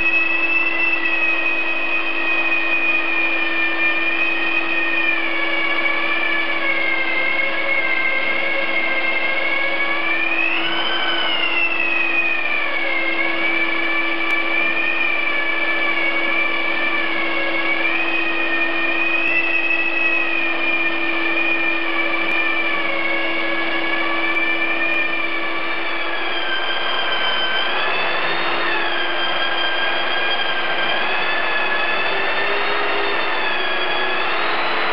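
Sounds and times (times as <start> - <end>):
drywall sander droning: 0.0 - 34.9.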